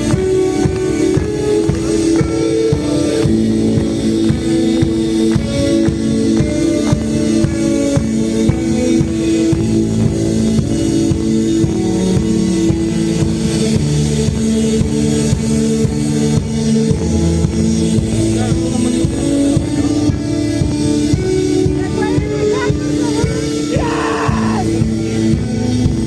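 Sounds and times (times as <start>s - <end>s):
driving drums: 0.0s - 26.0s.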